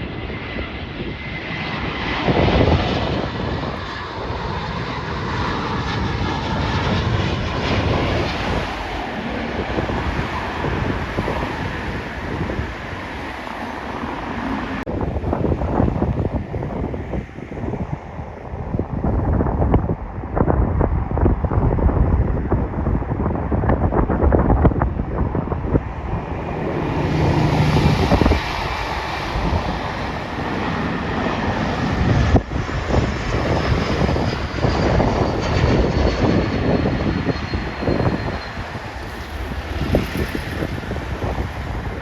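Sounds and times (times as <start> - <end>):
high jet engine whine: 0.0 - 42.0
jet airliner engine noise: 0.0 - 42.0
wind buffeting microphone: 0.0 - 42.0.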